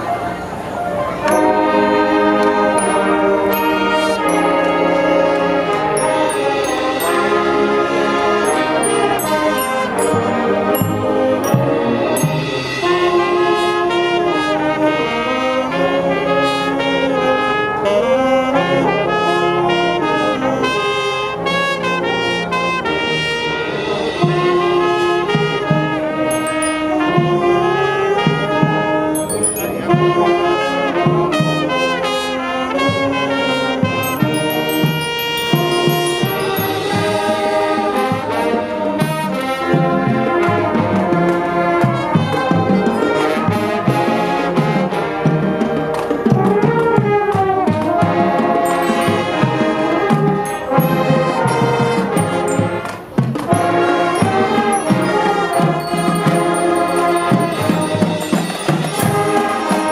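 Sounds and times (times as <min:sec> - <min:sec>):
marching band playing: 0:01.2 - 0:59.9.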